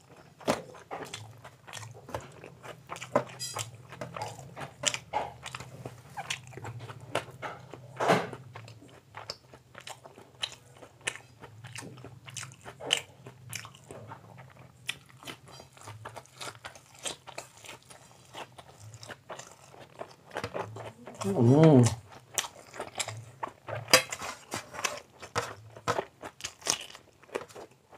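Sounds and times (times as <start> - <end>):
close-up chewing with mouth clicks: 0.0 - 27.9.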